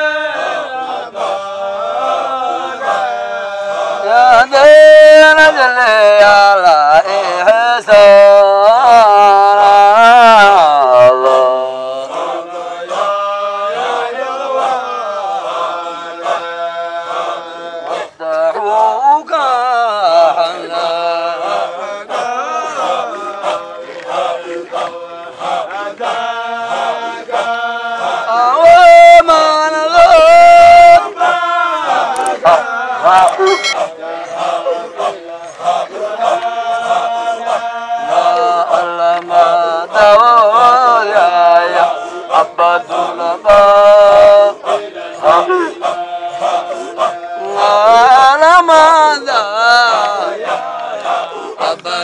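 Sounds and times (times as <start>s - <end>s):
men chanting: 0.0s - 52.0s.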